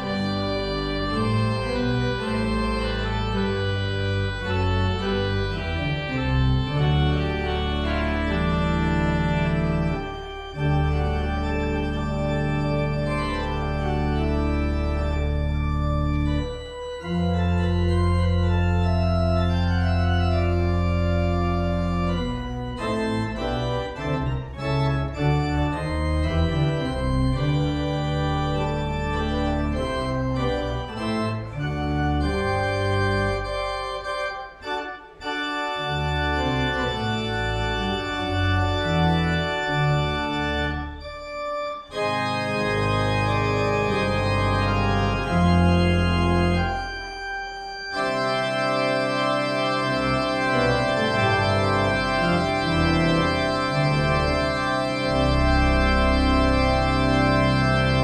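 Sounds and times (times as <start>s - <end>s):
organ chords: 0.0s - 58.0s.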